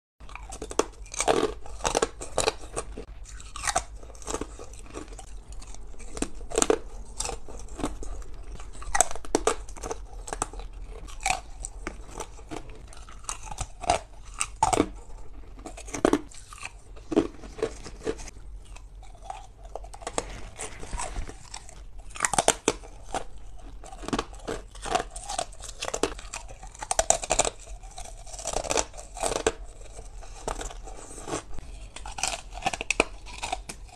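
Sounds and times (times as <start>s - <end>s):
ice crunching while chewed: 0.2s - 33.9s.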